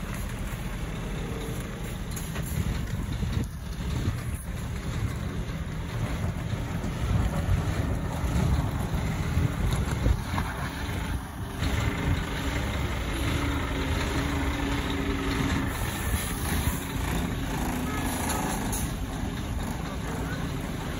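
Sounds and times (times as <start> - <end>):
diesel truck engine rumbling: 0.0 - 20.9.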